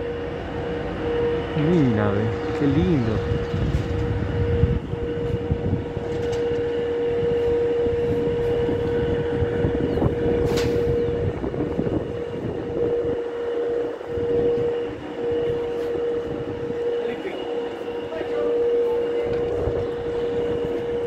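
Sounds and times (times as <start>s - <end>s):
vehicle engine whining: 0.0s - 21.0s.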